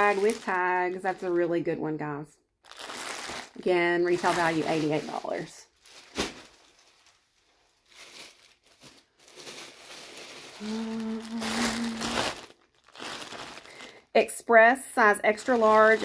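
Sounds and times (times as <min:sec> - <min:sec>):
plastic bag crinkling: 0:00.0 - 0:01.6, 0:02.6 - 0:14.2, 0:15.3 - 0:16.0.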